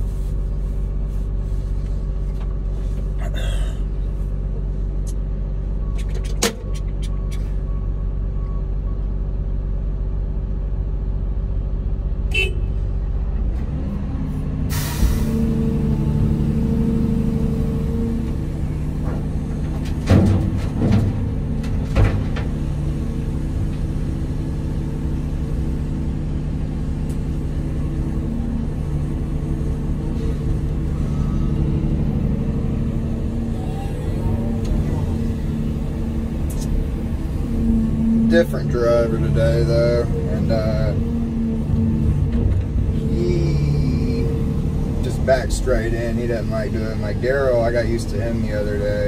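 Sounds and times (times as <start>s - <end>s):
excavator engine and hydraulics: 0.0s - 49.0s.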